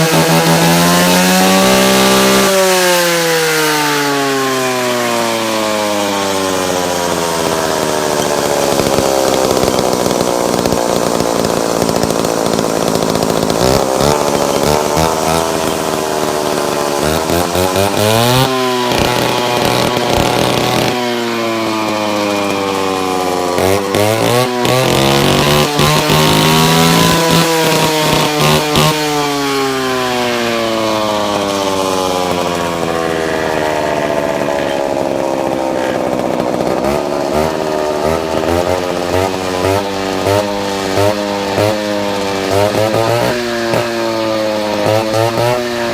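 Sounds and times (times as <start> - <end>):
concrete cutting saw running: 0.0 - 45.9.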